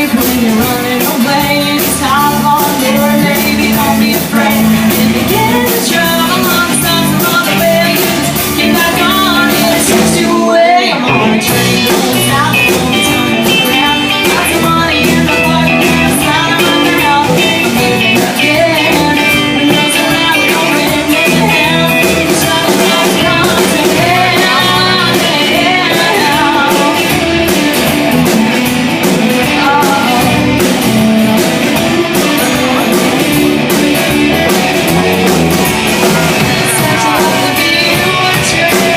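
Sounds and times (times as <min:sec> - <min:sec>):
woman singing: 0:00.0 - 0:34.1, 0:35.6 - 0:38.9
live rock and roll band: 0:00.0 - 0:38.9.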